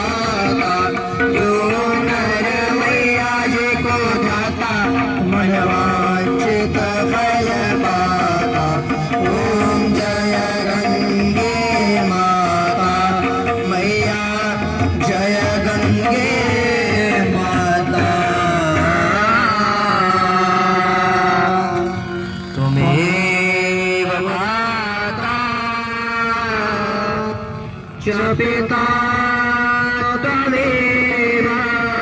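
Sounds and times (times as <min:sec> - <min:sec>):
instrumental accompaniment: 0:00.0 - 0:32.0
person singing devotional song: 0:00.0 - 0:32.0.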